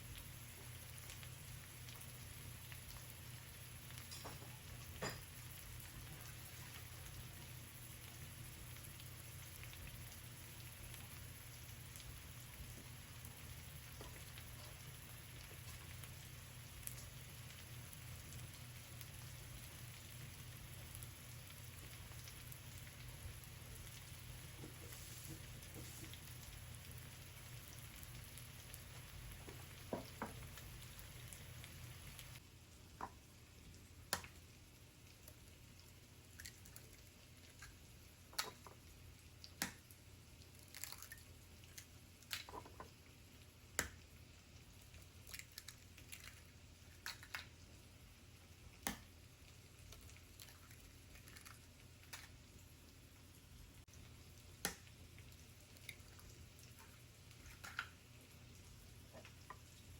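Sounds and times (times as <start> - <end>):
faint clicks and drip-like ticks: 0.0 - 59.9
low steady hum: 0.0 - 59.9.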